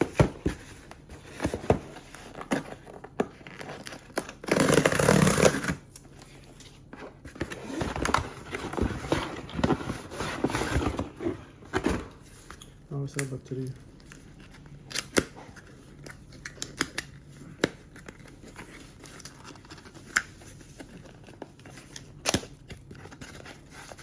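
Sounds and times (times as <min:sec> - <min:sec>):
cardboard and plastic rustling: 0:00.0 - 0:24.0.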